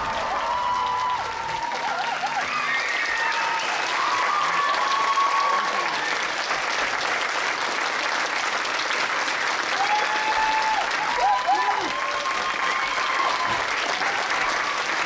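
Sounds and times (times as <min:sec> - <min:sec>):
audience applauding: 0:00.0 - 0:15.0
people cheering: 0:00.0 - 0:15.0.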